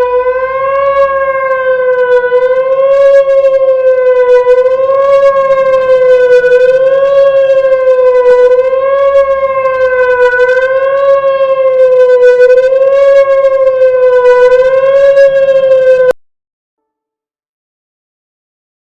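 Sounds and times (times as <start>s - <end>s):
warning siren steady tone: 0.0s - 16.2s.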